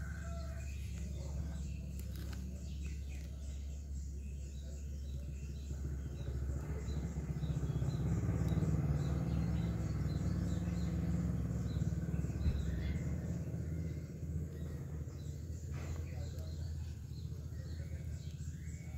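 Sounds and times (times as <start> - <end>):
birds chirping faintly: 0.0 - 18.9.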